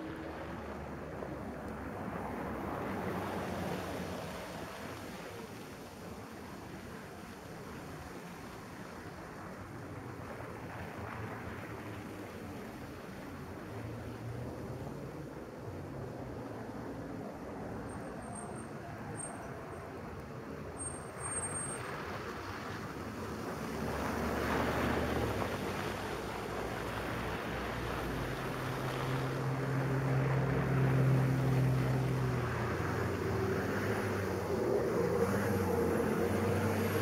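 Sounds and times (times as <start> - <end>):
tyre hiss of passing cars: 0.0 - 37.0.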